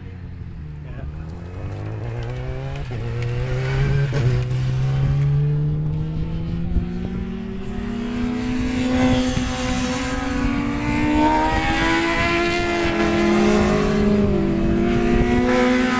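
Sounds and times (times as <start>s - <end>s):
wind buffeting microphone: 0.0s - 15.9s
motorcycle engine revving hard: 0.7s - 15.9s.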